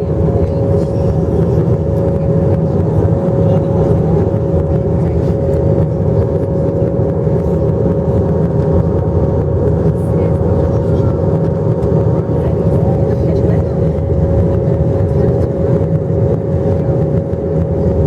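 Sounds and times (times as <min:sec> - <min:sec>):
constant hum-like tone: 0:00.0 - 0:18.0
jet engine and airflow rumble: 0:00.0 - 0:18.0.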